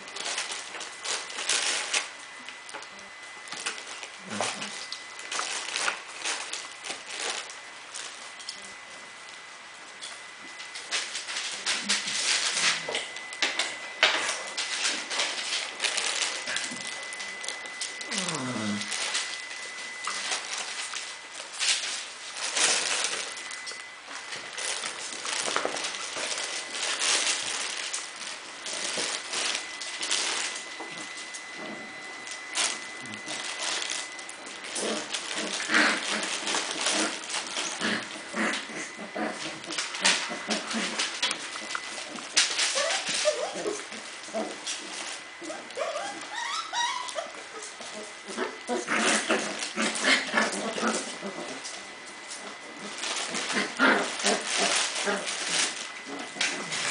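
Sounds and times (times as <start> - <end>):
paws scrabbling on rug and tile: 0.0 - 56.9
puppies growling and yipping: 2.8 - 8.8, 10.5 - 56.9.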